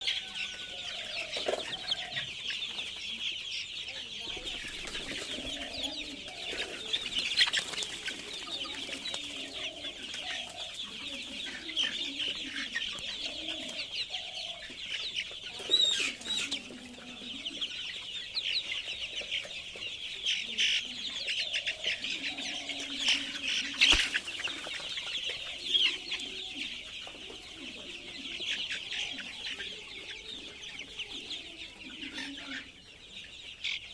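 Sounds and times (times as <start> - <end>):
chickens clucking: 0.0 - 33.9
chicks peeping: 0.0 - 33.9.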